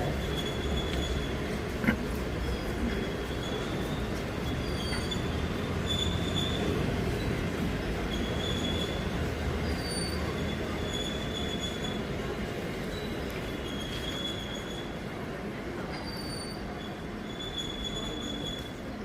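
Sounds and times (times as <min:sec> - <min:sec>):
wheels squealing on rails: 0:00.0 - 0:19.0.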